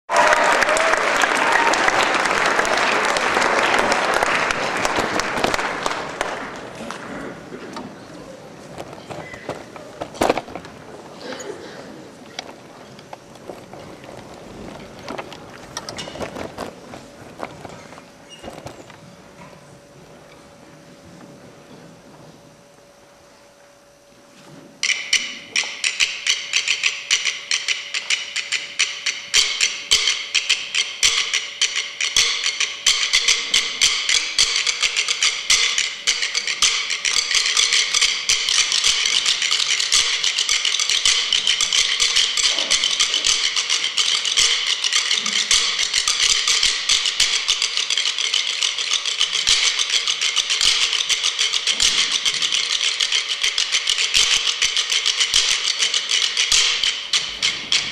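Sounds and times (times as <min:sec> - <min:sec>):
sticks striking wooden stools: 0:04.7 - 0:19.6, 0:24.8 - 0:57.9.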